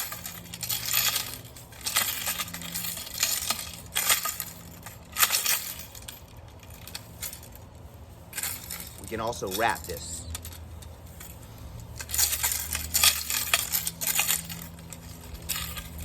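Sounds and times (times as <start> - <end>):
metal chain links jangling: 0.0 - 16.0.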